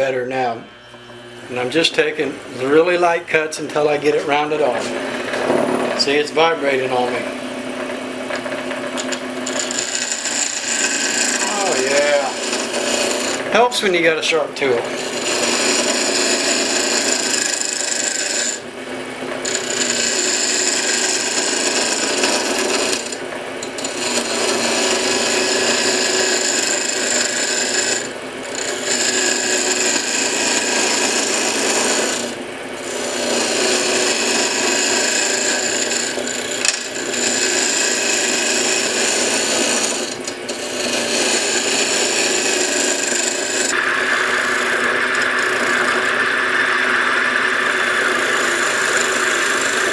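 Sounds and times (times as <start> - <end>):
lathe gouge cutting wood: 8.6 - 18.6, 19.4 - 49.9.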